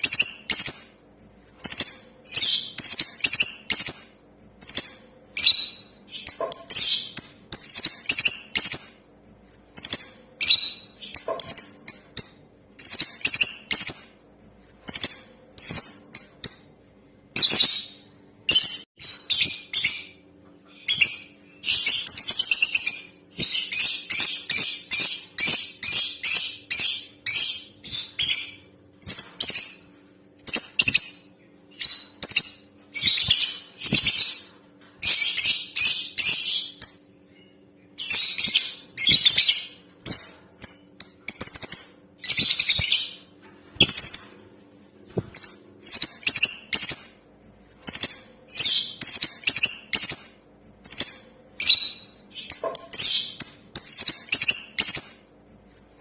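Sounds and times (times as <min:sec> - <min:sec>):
lovebirds chirping: 0:00.0 - 0:56.0.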